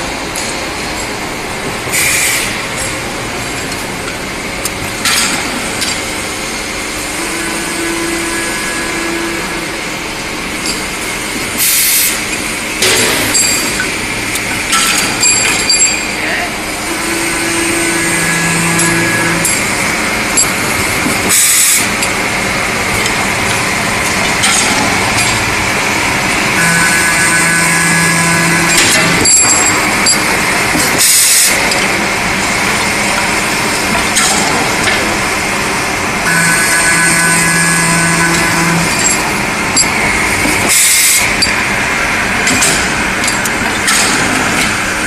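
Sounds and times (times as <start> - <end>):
machine humming tone: 0.0 - 45.0
tube cutting machine running: 0.0 - 45.0.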